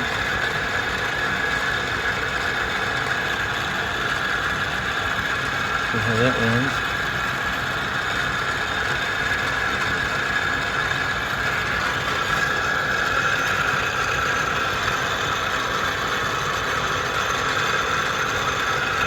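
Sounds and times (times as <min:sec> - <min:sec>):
lathe motor whirring: 0:00.0 - 0:19.0.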